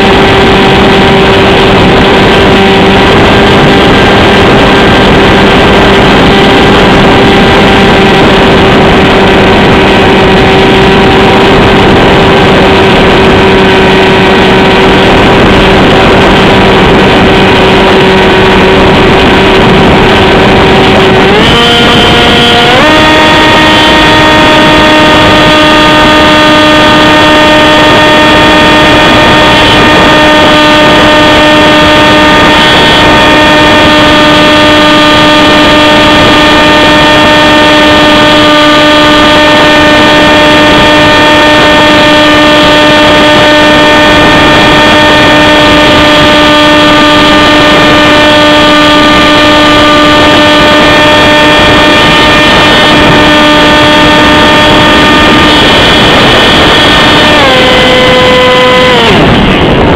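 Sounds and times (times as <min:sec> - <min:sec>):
model airplane motor droning: 0:00.0 - 0:59.9.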